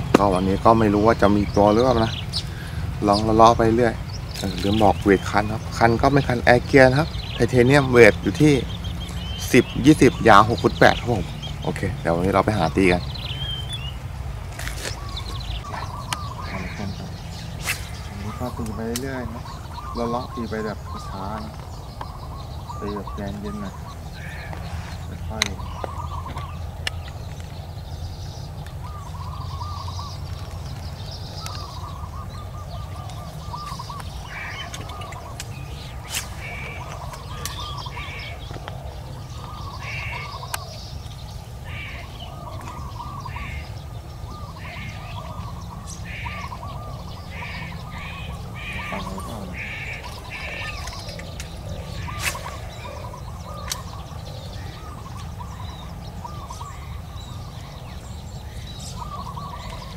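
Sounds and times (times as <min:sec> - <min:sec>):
birds chirping: 0:00.0 - 0:59.9
steady low rumble: 0:00.0 - 0:59.9.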